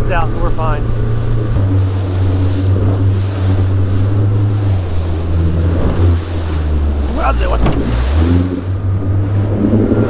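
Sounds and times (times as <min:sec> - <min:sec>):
outboard motor running: 0:00.0 - 0:10.0
water rushing off hull: 0:00.0 - 0:10.0.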